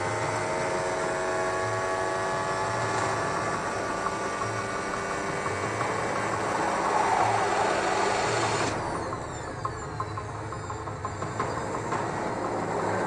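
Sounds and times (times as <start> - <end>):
racing car engine at speed: 0.0 - 13.0.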